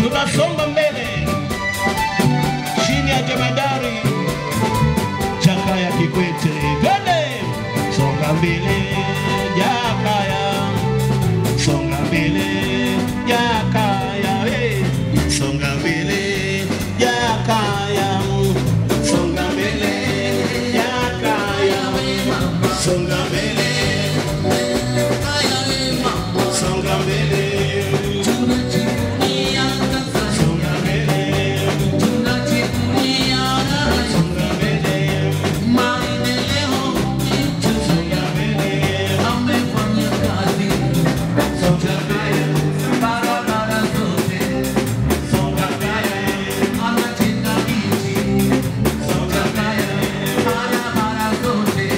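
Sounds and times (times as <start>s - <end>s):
man singing: 0.0s - 1.6s, 2.2s - 51.9s
bass guitar: 0.0s - 51.9s
drum kit: 0.0s - 51.9s
electric guitar: 0.0s - 51.9s
keyboard: 0.0s - 51.9s.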